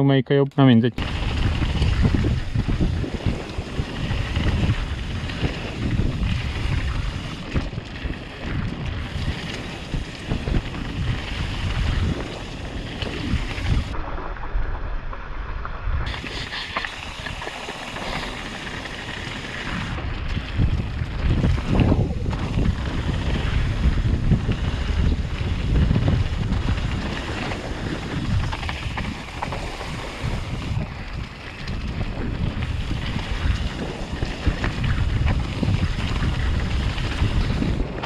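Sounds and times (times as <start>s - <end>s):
bike rattling over bumps: 1.0s - 38.0s
tyre rumble on dirt trail: 1.0s - 38.0s
wind rushing over microphone: 1.0s - 38.0s.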